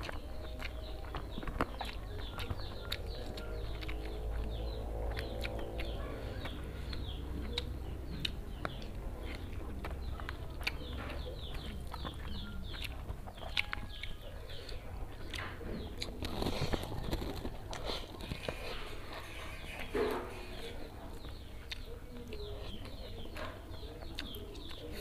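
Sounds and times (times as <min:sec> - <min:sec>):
birds chirping: 0:00.0 - 0:25.0
chewing: 0:00.0 - 0:25.0.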